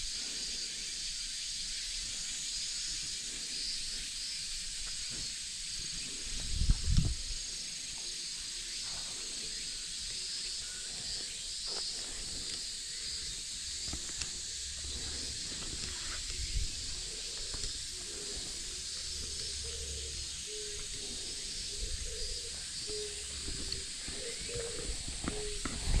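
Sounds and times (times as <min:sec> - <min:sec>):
cicadas droning: 0:00.0 - 0:26.0.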